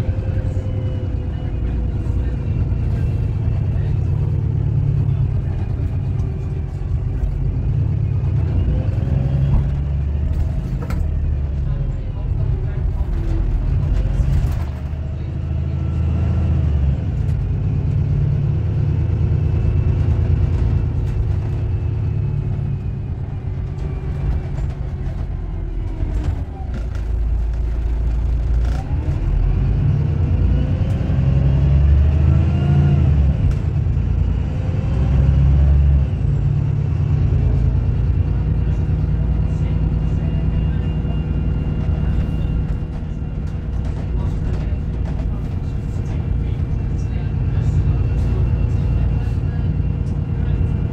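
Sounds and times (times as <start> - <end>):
bus engine drone: 0.0 - 50.9
interior rattles and clicks: 0.1 - 15.5, 19.1 - 31.1, 33.2 - 50.9.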